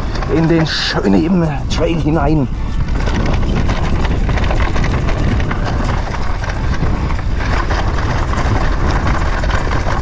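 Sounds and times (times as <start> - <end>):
mountain bike rattling down trail: 0.0 - 10.0.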